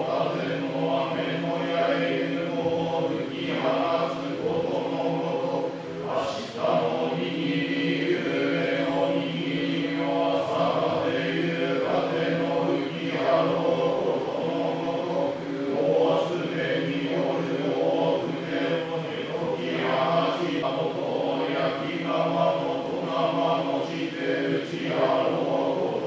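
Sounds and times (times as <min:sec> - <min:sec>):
chanted prayer recitation: 0:00.0 - 0:26.0.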